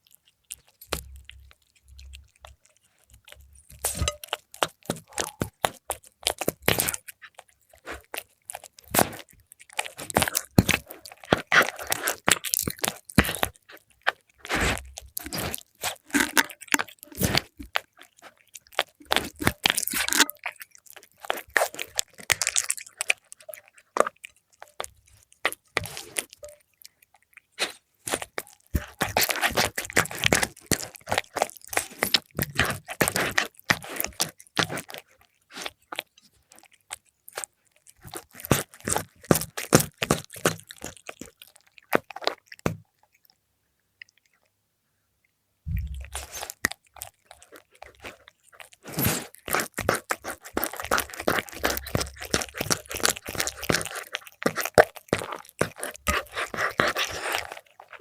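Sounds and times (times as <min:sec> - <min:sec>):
cat crunching food: 0:00.0 - 0:44.6, 0:45.7 - 0:58.0.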